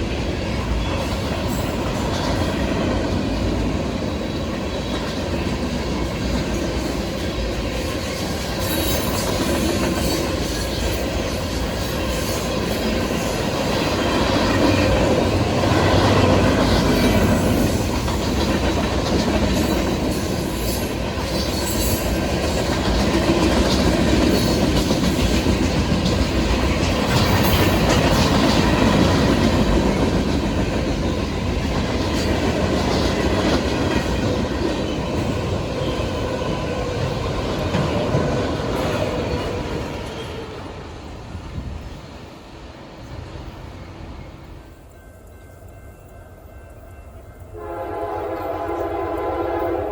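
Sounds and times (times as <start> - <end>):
train wheels clicking over rail joints: 0.0 - 42.4.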